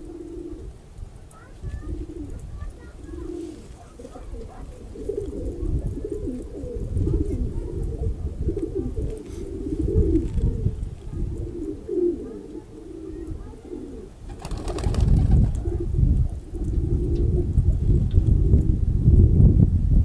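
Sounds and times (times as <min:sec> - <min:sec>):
pigeons cooing: 0:00.0 - 0:00.8, 0:01.4 - 0:17.8.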